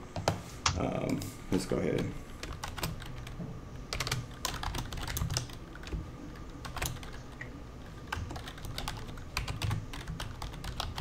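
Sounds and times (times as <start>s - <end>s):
computer keyboard typing: 1.9s - 11.0s.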